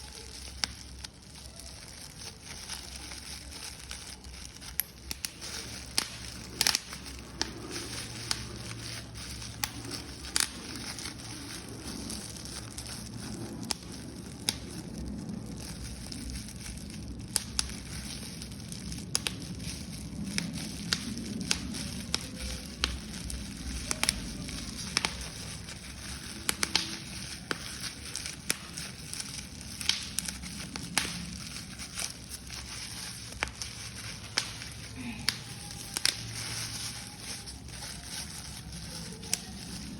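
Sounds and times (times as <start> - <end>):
paper crumpling: 0.0 - 39.9
paper tearing: 0.0 - 39.9.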